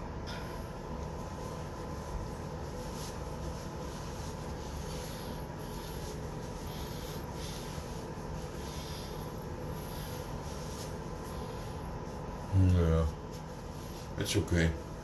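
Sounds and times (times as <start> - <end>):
low background hum: 0.0 - 15.0
soft rubbing strokes: 0.4 - 15.0.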